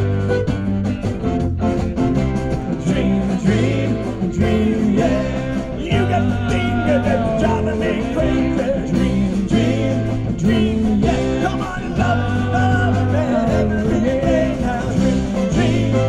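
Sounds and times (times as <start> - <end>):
bass guitar: 0.0 - 16.0
lead guitar with bending notes: 0.0 - 16.0
rock drums: 0.0 - 16.0.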